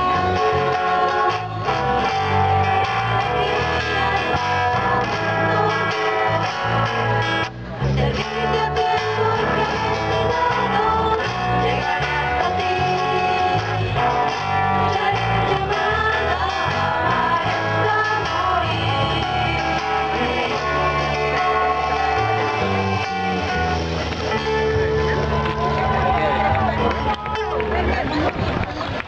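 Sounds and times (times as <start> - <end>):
person singing: 0.0 - 25.3
live band playing: 0.0 - 28.3
bass line: 0.0 - 29.0
guitar: 0.0 - 29.0.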